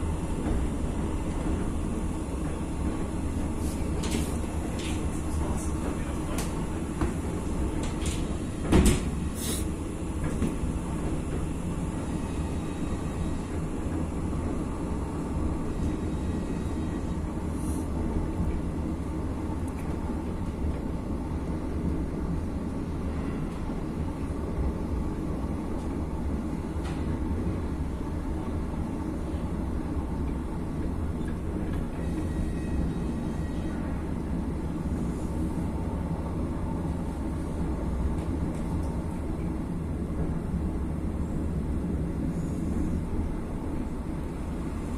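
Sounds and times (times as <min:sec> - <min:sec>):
train running rumble: 0:00.0 - 0:44.9.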